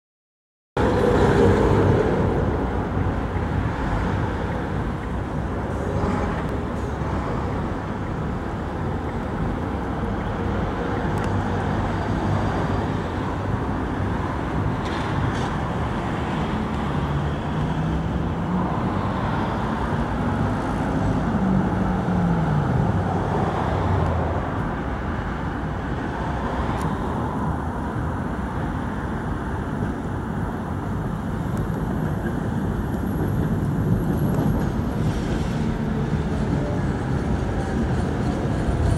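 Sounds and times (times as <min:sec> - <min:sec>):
city traffic: 0:00.8 - 0:38.9
tram running on track: 0:00.8 - 0:38.9.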